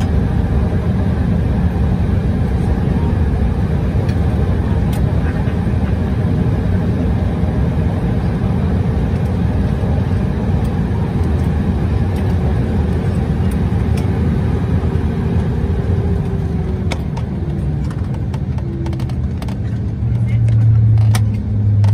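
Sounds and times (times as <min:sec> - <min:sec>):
jet engines rumbling in cabin: 0:00.0 - 0:21.9.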